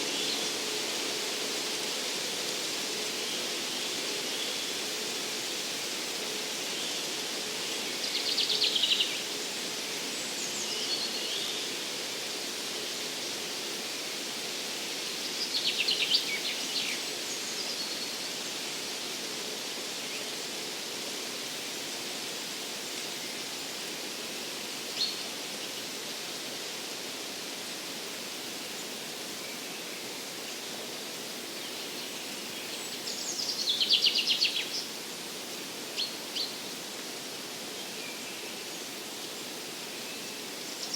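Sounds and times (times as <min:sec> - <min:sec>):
forest ambience hiss: 0:00.0 - 0:40.9.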